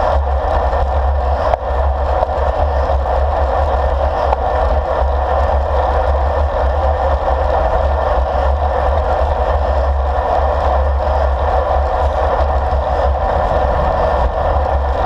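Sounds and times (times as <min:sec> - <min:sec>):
bicycle road noise: 0:00.0 - 0:15.0
wind rumble: 0:00.0 - 0:15.0.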